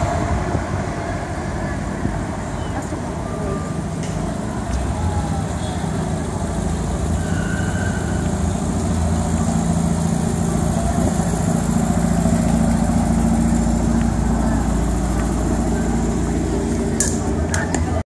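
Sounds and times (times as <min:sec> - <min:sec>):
car engines idling: 0:00.0 - 0:18.0.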